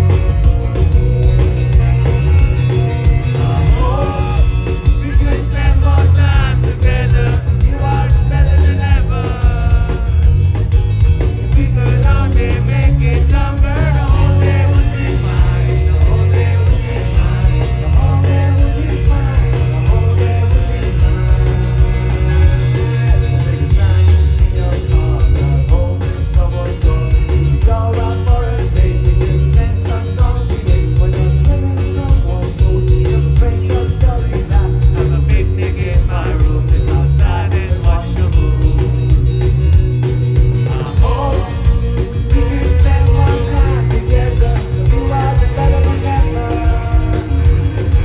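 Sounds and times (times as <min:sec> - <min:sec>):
live rock band playing: 0:00.0 - 0:48.0
singer vocals: 0:01.5 - 0:39.6, 0:40.3 - 0:48.0.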